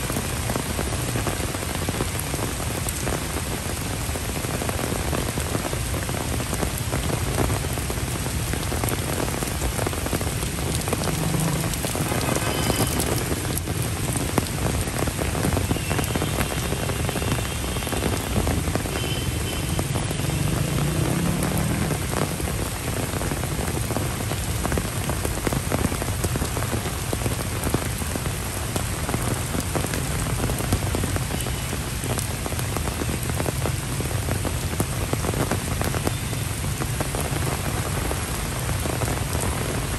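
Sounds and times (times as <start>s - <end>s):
rain on paving and foliage: 0.0s - 39.9s.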